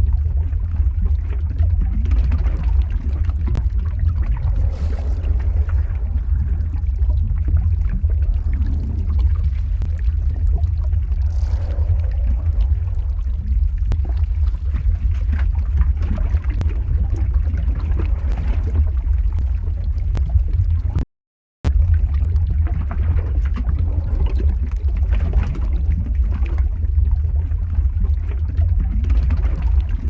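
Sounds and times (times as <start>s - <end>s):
crackles and pops: 0.0s - 21.0s, 21.6s - 30.0s
deep steady rumble: 0.0s - 21.0s, 21.7s - 30.0s.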